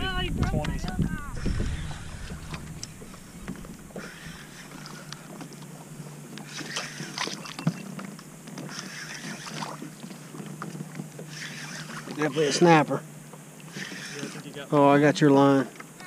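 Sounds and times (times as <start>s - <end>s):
water lapping against kayak hull: 0.0s - 16.0s.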